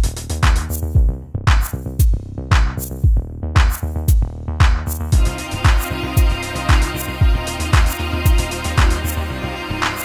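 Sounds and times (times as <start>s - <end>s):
pop song with drum beat: 0.0s - 10.0s.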